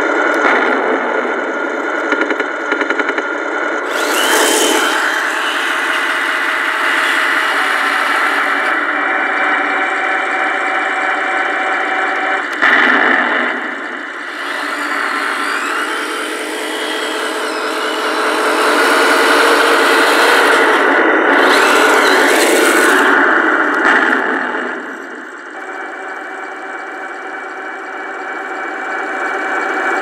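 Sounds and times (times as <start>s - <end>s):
model tank motors and tracks running: 0.0s - 30.0s.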